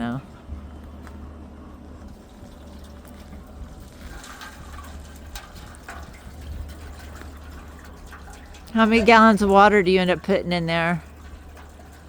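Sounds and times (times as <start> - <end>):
steady low hum: 0.0 - 12.0
water pouring and splashing: 2.1 - 12.0.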